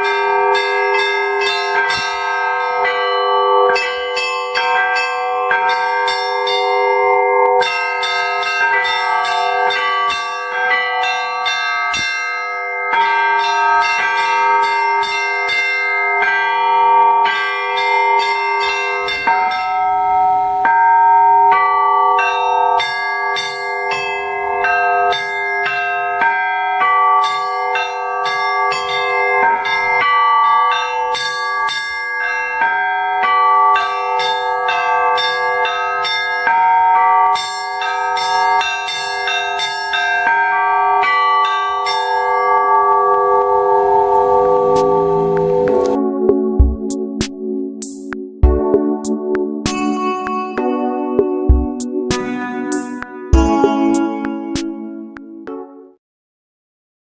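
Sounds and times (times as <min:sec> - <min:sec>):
small high church bells: 0:00.0 - 0:47.6, 0:48.4 - 0:55.6
large church bells ringing: 0:00.0 - 0:47.8, 0:48.4 - 0:55.4.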